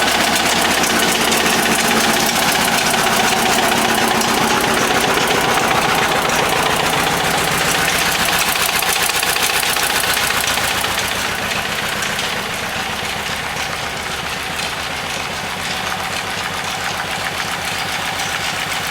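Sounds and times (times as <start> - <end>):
diesel engine knocking steadily: 0.0 - 18.9.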